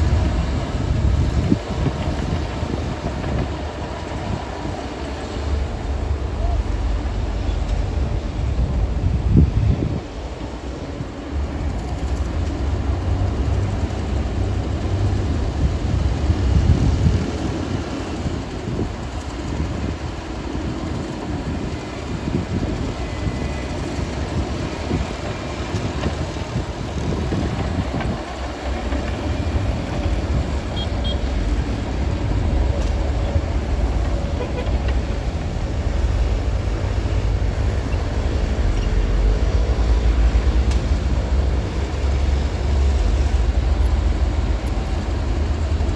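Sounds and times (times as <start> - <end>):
bulldozer diesel engine rumbling: 0.0 - 45.9.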